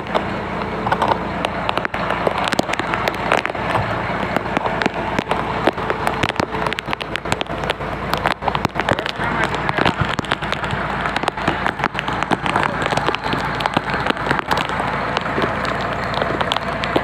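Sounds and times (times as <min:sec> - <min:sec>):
raindrops tapping: 0:00.0 - 0:17.0
steady low hum: 0:00.0 - 0:17.0.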